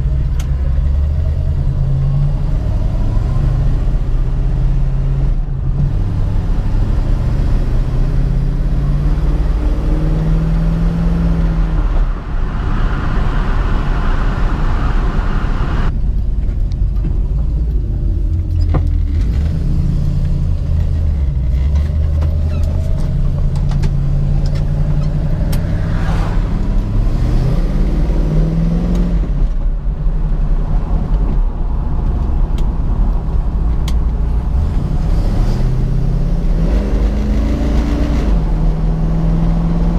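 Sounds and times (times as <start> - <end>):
car engine revving while driving: 0.0 - 15.9, 19.0 - 29.7, 30.4 - 39.9.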